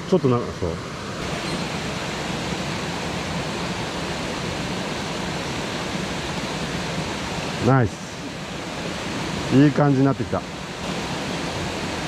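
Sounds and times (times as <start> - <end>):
mountain stream flowing: 0.0 - 12.0.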